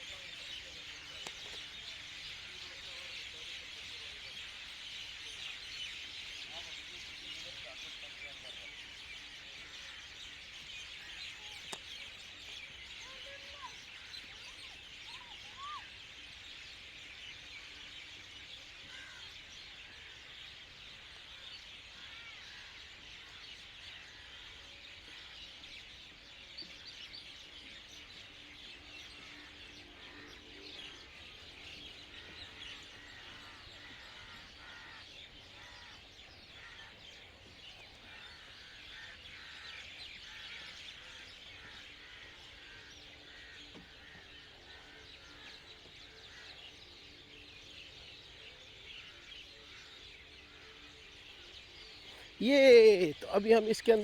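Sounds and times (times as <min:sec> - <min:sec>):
chorus of small birds chirping: 0:00.0 - 0:54.0.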